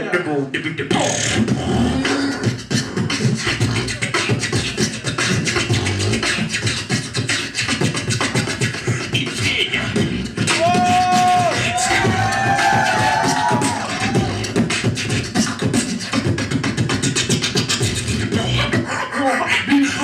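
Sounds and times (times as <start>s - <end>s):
beatboxing: 0.0s - 20.0s.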